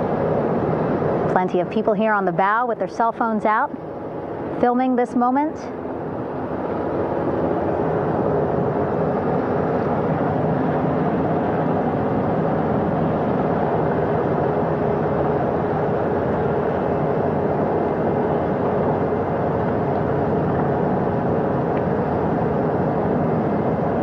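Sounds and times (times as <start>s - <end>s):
faint steady tones: 0.0s - 24.0s
helicopter engine and rotor: 0.0s - 24.0s.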